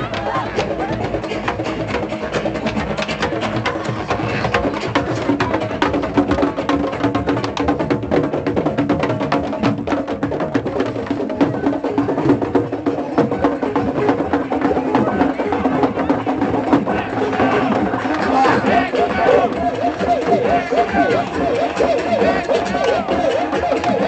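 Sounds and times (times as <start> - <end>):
hand drums playing fast rhythm: 0.0 - 24.0.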